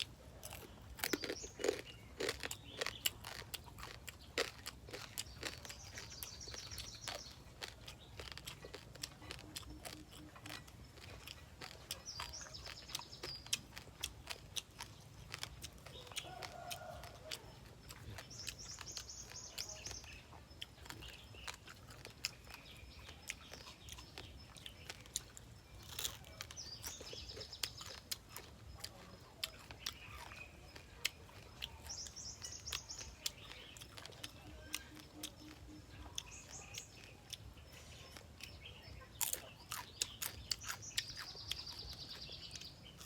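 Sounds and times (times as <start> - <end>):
bird chirping: 0.0 - 43.0
crab shell crunching: 0.0 - 43.0.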